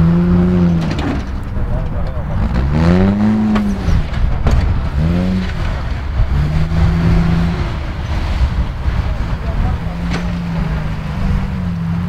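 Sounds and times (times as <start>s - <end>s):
engine revving: 0.0s - 12.0s
low engine rumble: 0.0s - 12.0s.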